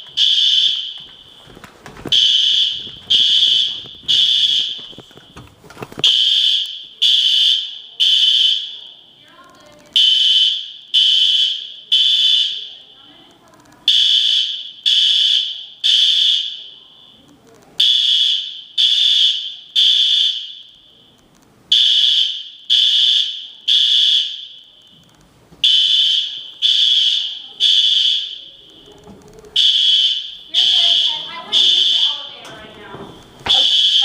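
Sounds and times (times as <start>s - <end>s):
fire alarm beeping: 0.0s - 34.0s.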